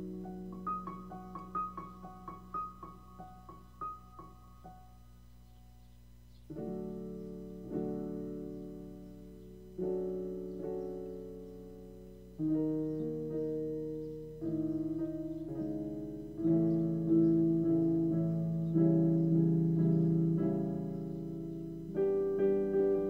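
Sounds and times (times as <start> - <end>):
slow solo piano chords: 0.0 - 23.0.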